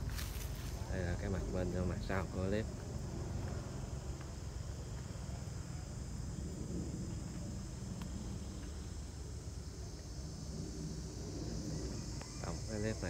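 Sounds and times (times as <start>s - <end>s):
insects chirring: 0.0s - 13.0s
wind rumble on microphone: 0.0s - 13.0s.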